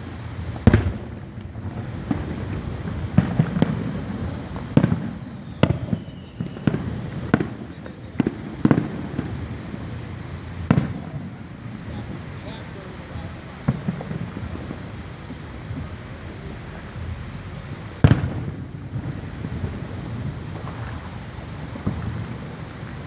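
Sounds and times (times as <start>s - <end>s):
fireworks booming: 0.0s - 23.0s.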